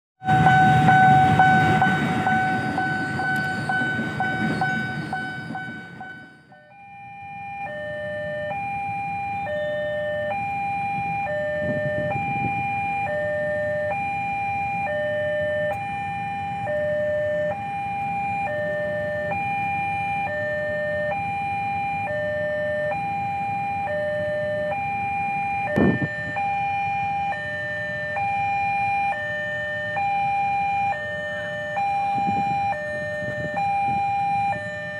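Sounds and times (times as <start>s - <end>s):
level crossing two-tone alarm: 0.2s - 34.9s
loud steady tone: 0.2s - 34.9s.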